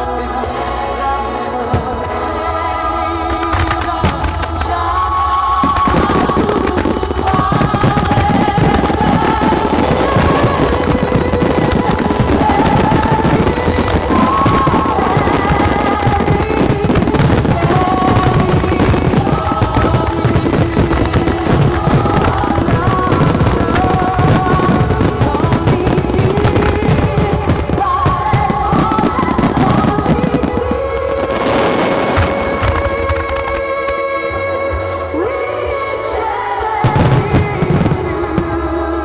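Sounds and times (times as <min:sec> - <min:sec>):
slow melody music: 0:00.0 - 0:39.0
fireworks crackling and bursting: 0:01.7 - 0:38.8.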